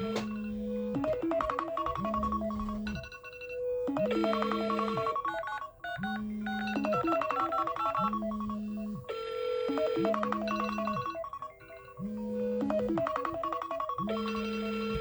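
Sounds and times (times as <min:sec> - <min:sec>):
phone ringtone electronic melody: 0:00.0 - 0:15.0.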